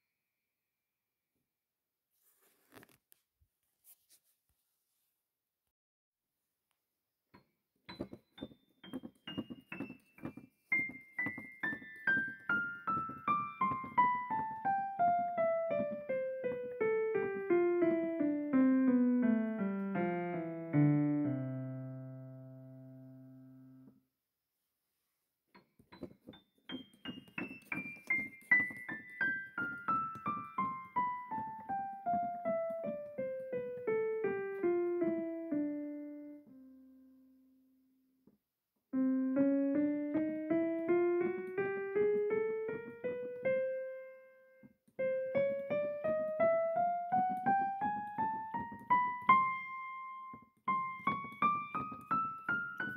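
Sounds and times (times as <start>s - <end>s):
solo piano music: 7.3s - 24.0s, 25.5s - 38.0s, 38.9s - 52.9s.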